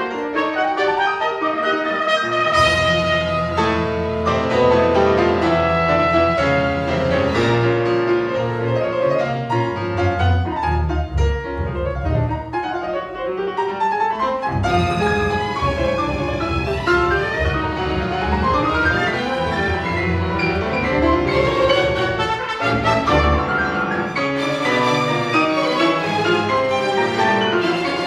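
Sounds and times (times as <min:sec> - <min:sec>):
string orchestra: 0:00.0 - 0:12.4, 0:14.4 - 0:28.0
piano: 0:00.0 - 0:28.0.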